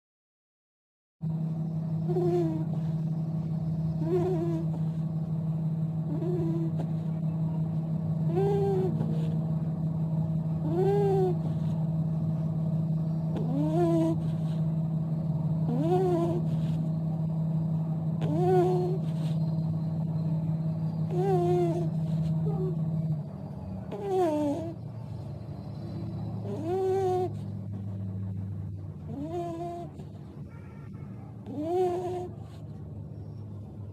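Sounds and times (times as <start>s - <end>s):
puppy snoring: 1.2s - 33.9s
steady low hum: 1.2s - 33.9s.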